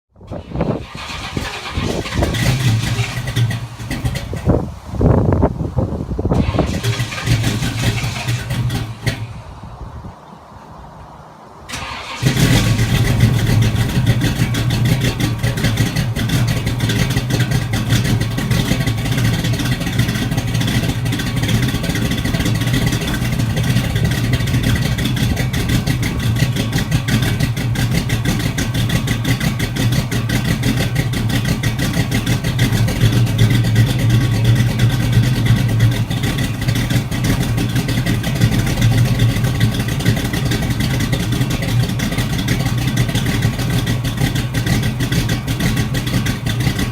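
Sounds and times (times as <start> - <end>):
car engine idling: 0.2 - 10.2, 11.6 - 46.9.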